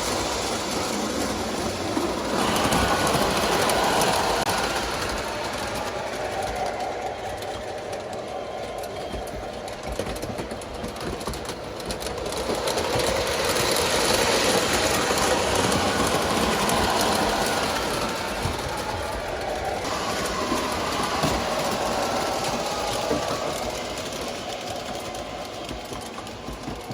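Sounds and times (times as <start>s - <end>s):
model train motor whirring: 0.0s - 26.9s
wheels clattering on rail: 0.0s - 26.9s.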